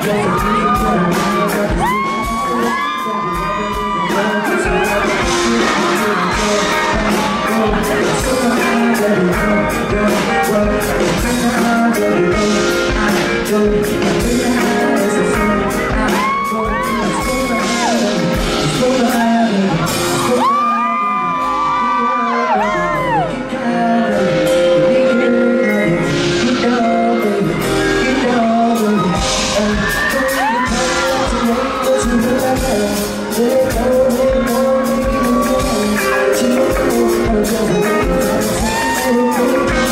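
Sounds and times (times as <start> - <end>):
amplified backing track: 0.0 - 39.9
man singing into microphone: 0.0 - 39.9.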